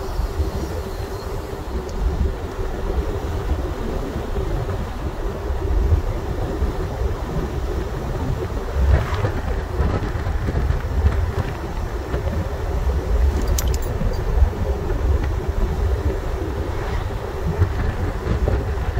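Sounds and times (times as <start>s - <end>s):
low road rumble: 0.0s - 18.9s
wind buffeting microphone: 0.0s - 18.9s.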